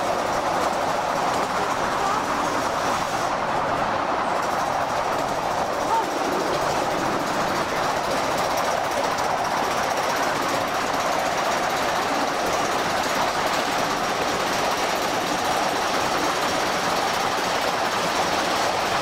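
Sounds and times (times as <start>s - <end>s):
train wheels clattering on rails: 0.0s - 19.0s.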